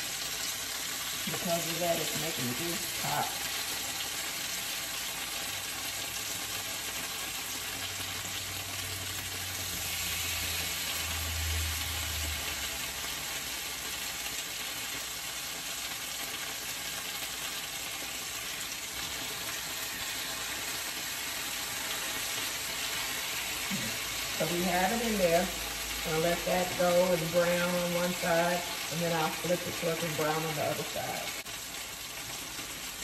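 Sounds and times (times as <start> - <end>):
meat sizzling in oil: 0.0 - 33.0.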